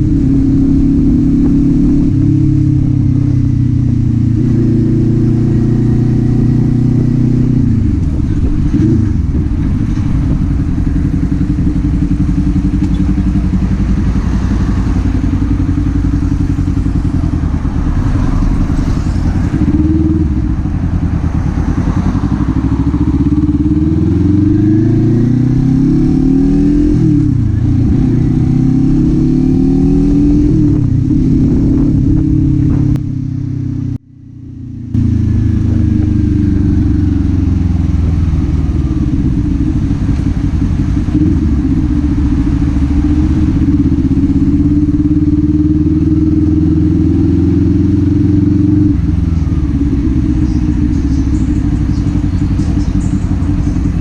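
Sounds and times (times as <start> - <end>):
motorcycle engine and exhaust: 0.0 - 54.0.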